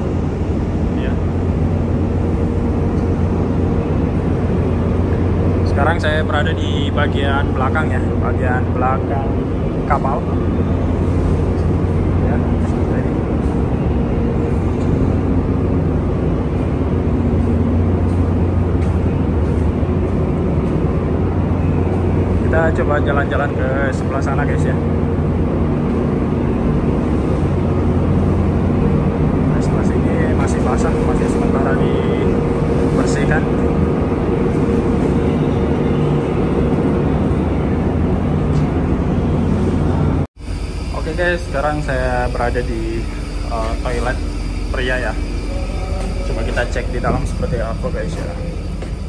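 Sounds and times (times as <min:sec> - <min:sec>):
ferry engine droning: 0:00.0 - 0:49.0.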